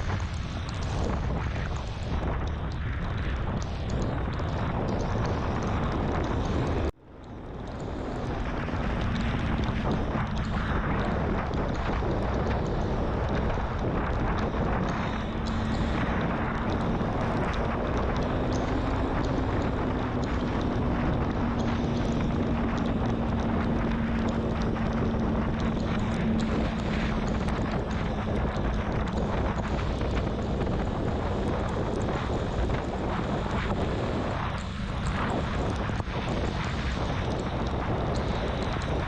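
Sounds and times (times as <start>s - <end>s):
wind rush on microphone: 0.0s - 39.0s
motorcycle engine cruising: 4.4s - 39.0s.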